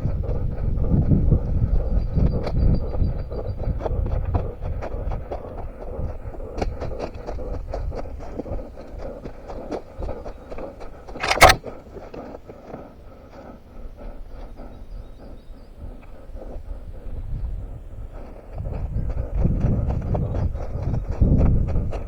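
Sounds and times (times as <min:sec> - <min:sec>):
running footsteps on rough ground: 0:00.0 - 0:22.0.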